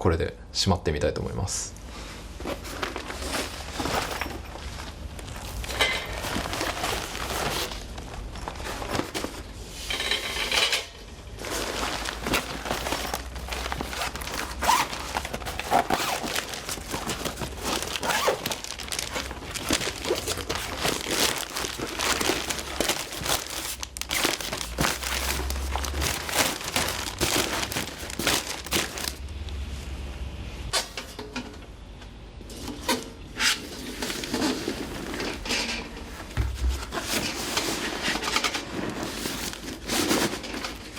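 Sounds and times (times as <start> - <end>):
metal parts crinkling and rustling: 2.2 - 29.2, 32.5 - 40.9.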